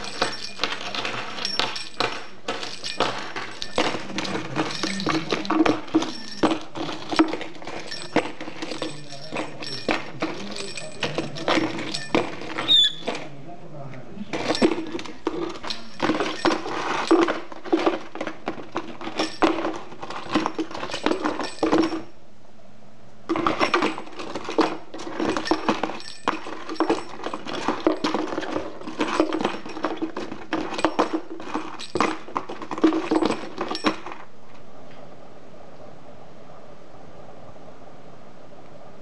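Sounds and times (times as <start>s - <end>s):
small metal bell jangling: 0.0s - 13.2s, 14.4s - 22.1s, 23.4s - 34.2s.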